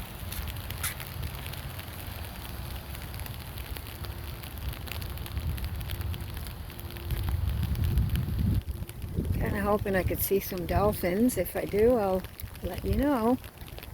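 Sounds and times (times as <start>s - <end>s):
light rain pattering: 0.0s - 13.9s
wind rumble on microphone: 0.0s - 13.9s.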